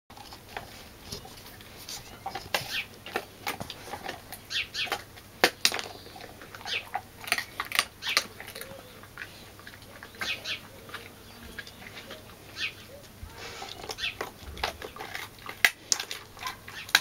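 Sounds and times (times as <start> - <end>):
dog crunching and chewing: 0.1 - 17.0.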